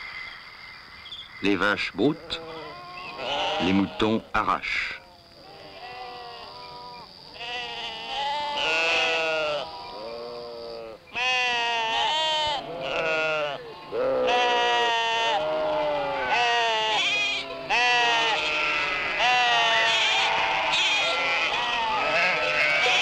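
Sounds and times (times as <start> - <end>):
sheep bleating: 2.2 - 4.3, 5.4 - 23.0.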